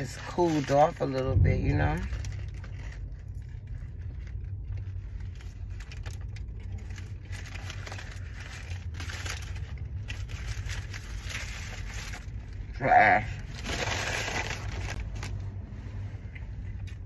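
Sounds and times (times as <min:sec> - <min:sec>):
paper wrapper rustling: 0:00.0 - 0:15.6
car engine idling: 0:00.6 - 0:17.0.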